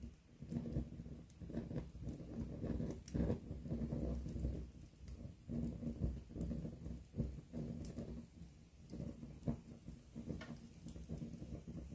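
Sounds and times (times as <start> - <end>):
fire crackling and popping: 0.0 - 11.9
low rumble of flames: 0.0 - 11.9.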